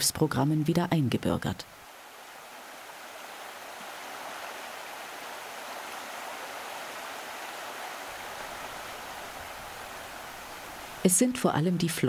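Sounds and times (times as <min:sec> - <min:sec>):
running water rushing: 0:01.6 - 0:12.0.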